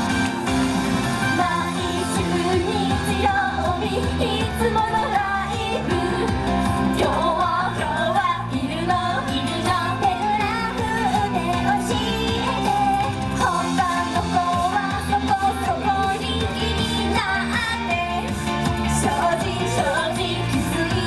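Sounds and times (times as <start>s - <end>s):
upbeat pop song: 0.0s - 21.0s
woman singing: 1.2s - 21.0s.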